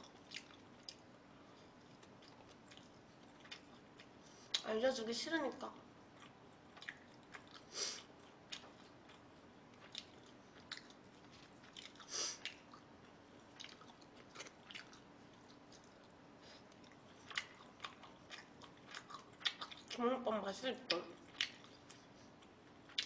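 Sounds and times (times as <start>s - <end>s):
soft chewing: 0.0s - 4.9s, 5.5s - 23.0s.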